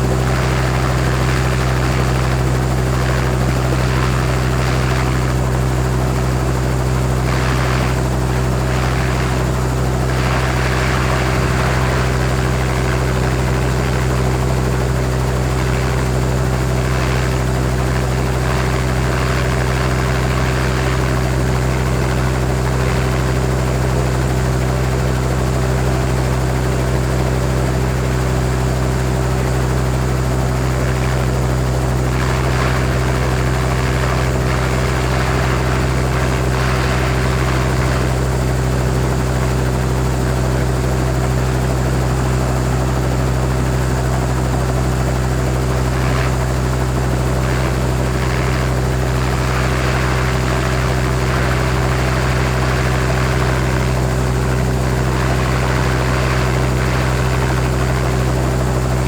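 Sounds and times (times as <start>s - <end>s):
helicopter idling: 0.0s - 59.0s.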